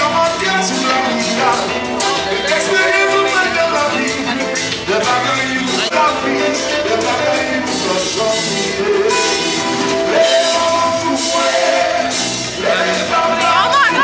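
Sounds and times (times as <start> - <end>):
person singing: 0.0 - 14.0
sustained instrumental notes: 0.0 - 14.0.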